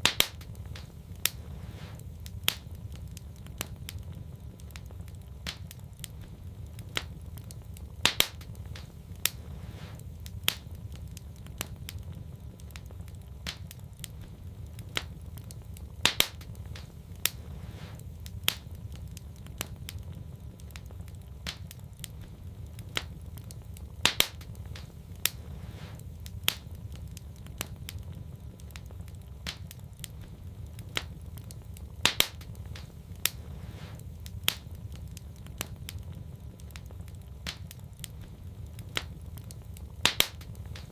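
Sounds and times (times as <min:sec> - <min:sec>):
fire crackling and popping: 0:00.0 - 0:40.9
fire low rumble: 0:00.0 - 0:40.9.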